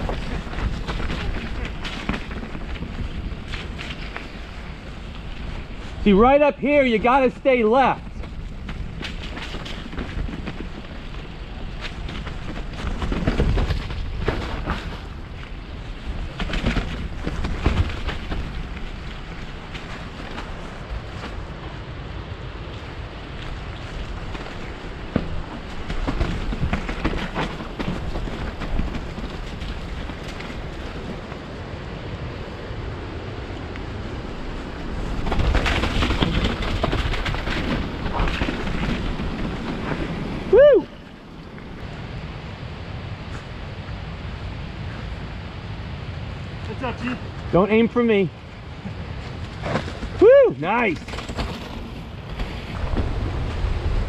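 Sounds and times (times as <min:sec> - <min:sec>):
bike rattling over bumps: 0:00.0 - 0:45.8, 0:46.4 - 0:54.0
wind buffeting microphone: 0:00.0 - 0:54.0.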